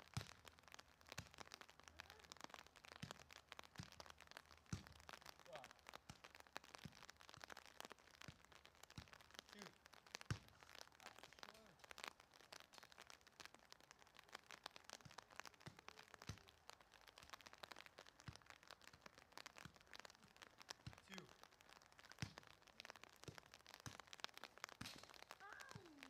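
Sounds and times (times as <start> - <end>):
faint clicks and crackles: 0.0 - 26.0.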